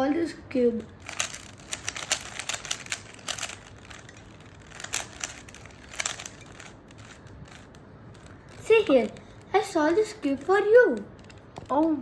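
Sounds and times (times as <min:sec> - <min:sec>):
puzzle cube plastic clicks: 0:00.8 - 0:12.0.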